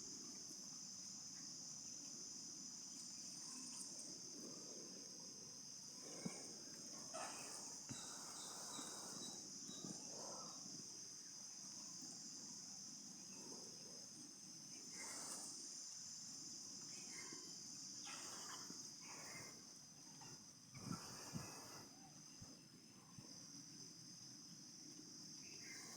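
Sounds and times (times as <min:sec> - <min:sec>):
high insect chorus: 0:00.0 - 0:25.9.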